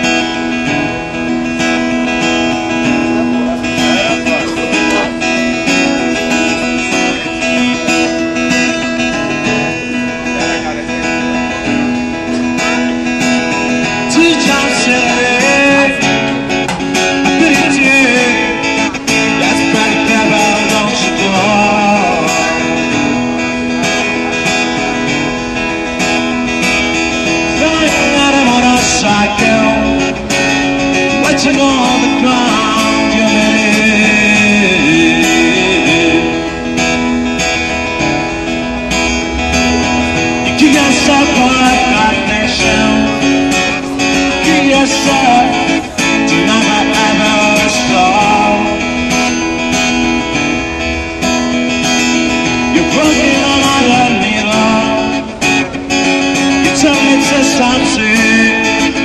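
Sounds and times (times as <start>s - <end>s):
man singing: 0.0s - 38.0s, 39.8s - 50.3s, 52.0s - 59.0s
acoustic guitar strumming: 0.0s - 59.0s.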